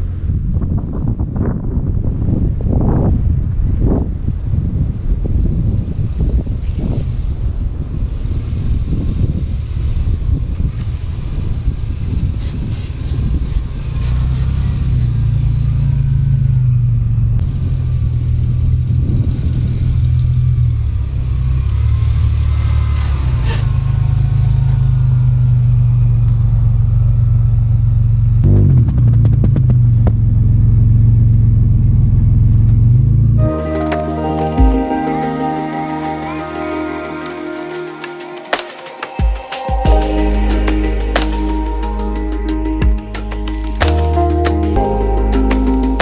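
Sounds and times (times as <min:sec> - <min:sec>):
car engine and road drone: 0:00.0 - 0:39.2, 0:39.8 - 0:46.0.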